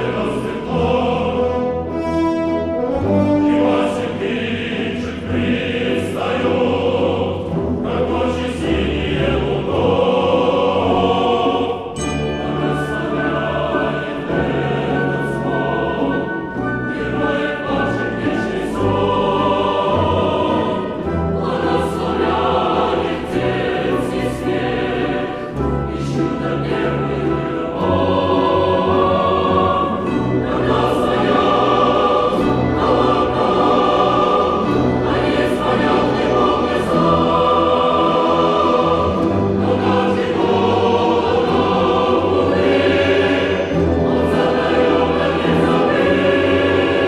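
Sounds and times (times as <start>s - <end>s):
folk instrument orchestra: 0.0s - 47.0s
mixed choir singing: 0.0s - 47.0s.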